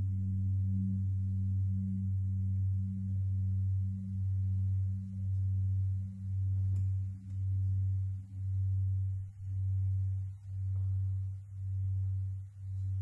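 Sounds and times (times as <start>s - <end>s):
low pulsing musical drone: 0.0s - 13.0s.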